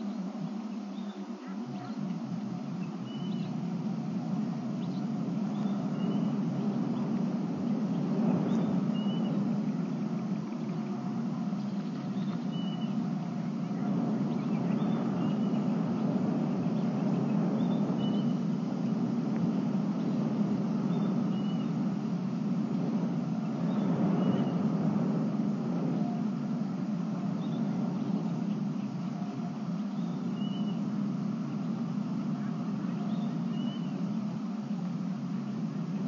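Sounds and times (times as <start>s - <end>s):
low outdoor background noise: 0.0s - 36.0s.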